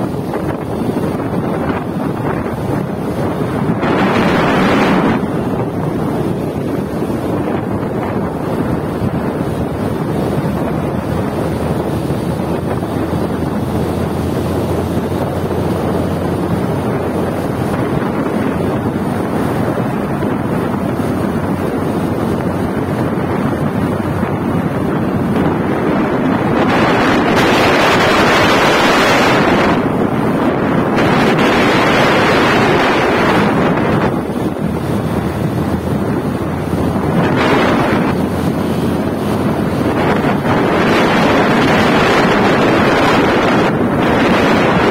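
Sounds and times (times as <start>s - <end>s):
road and engine noise: 0.0s - 44.9s
wind buffeting microphone: 0.0s - 44.9s.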